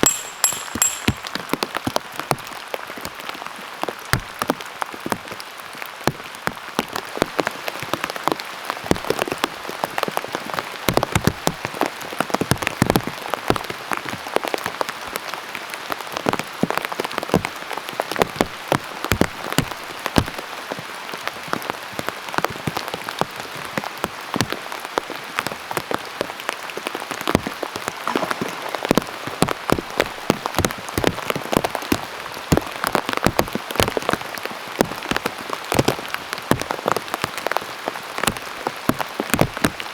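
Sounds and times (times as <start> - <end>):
raindrops striking a surface: 0.0 - 39.9
heavy rain pouring: 1.3 - 39.9.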